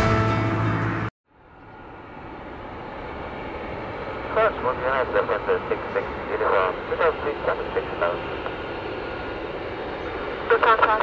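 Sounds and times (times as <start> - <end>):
jet engines taxiing: 0.4 - 11.0.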